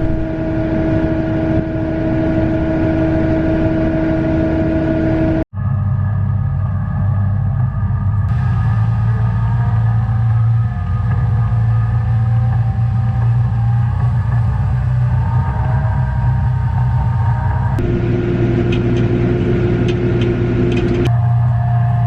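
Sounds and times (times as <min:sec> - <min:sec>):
faint whines: 0:00.0 - 0:06.2, 0:08.0 - 0:22.0
combine harvester engine drone: 0:00.0 - 0:22.0.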